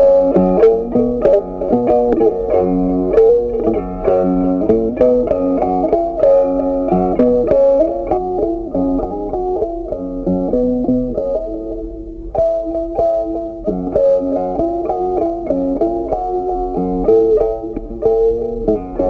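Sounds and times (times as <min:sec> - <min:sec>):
plucked guitar tune: 0:00.0 - 0:19.0.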